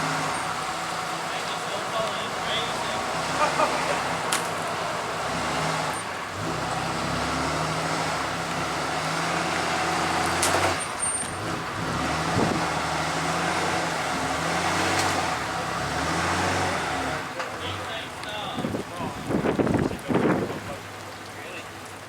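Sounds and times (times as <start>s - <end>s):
engine running at low revs: 0.0s - 20.8s.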